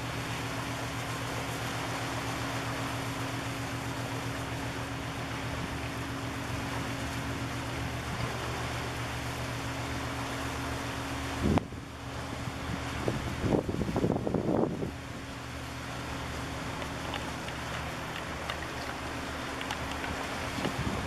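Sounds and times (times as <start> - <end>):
ship engine droning: 0.0 - 21.0
wind and water hiss: 0.0 - 21.0.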